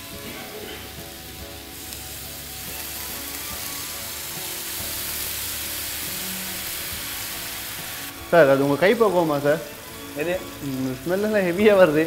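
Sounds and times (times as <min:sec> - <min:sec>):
chicken sizzling in a pan: 0:00.0 - 0:12.0
faint background music: 0:00.0 - 0:12.0.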